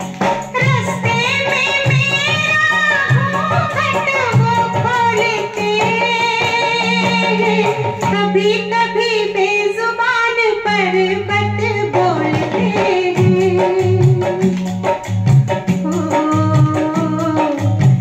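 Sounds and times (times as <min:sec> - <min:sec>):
rhythmic bass line: 0:00.0 - 0:09.0, 0:10.7 - 0:18.0
tabla: 0:00.0 - 0:18.0
woman singing: 0:00.2 - 0:14.6, 0:15.7 - 0:18.0.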